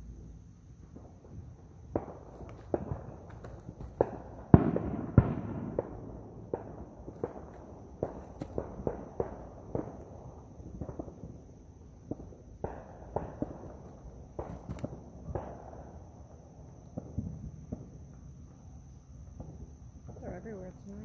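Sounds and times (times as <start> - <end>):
distant firecrackers popping: 0.8 - 18.6, 19.3 - 21.0.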